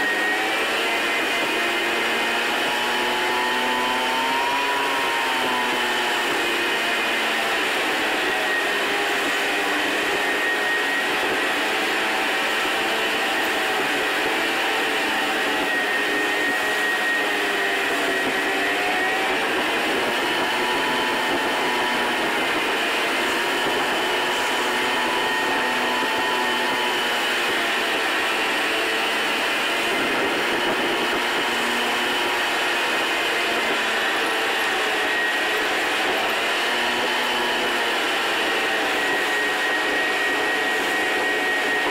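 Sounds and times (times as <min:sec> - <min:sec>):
car road and engine noise: 0:00.0 - 0:41.9.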